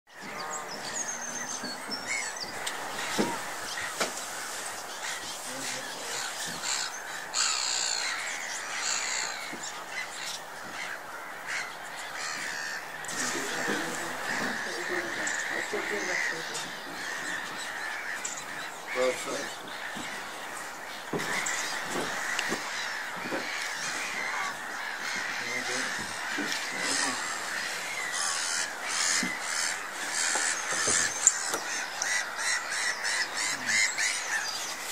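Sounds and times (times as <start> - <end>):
wild birds calling: 0.1 - 34.9.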